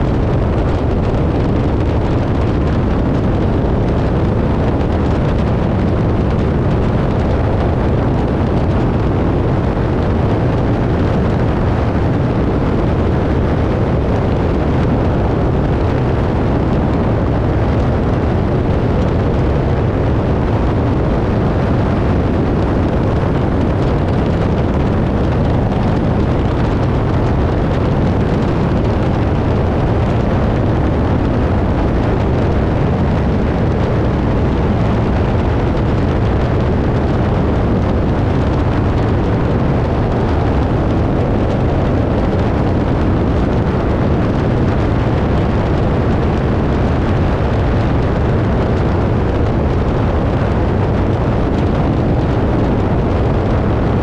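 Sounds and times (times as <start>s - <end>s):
propeller plane engine running: 0.0s - 54.0s
wind rushing over microphone: 0.0s - 54.0s.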